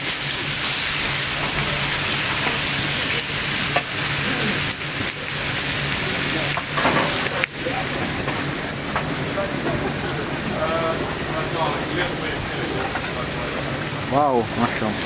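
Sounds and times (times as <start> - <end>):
food sizzling: 0.0 - 15.0
low steady hum: 0.1 - 15.0.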